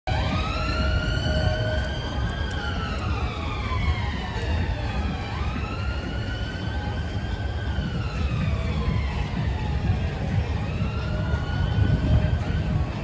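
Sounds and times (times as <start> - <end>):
emergency siren wailing: 0.1 - 13.0
traffic rumble: 0.1 - 13.0
wind: 0.1 - 13.0.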